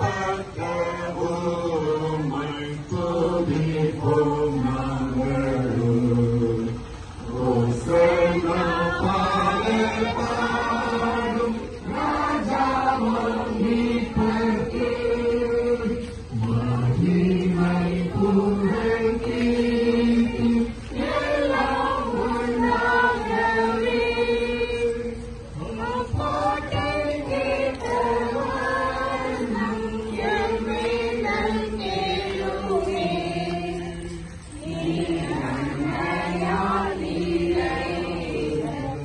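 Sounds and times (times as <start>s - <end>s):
crowd singing a hymn: 0.0s - 39.0s.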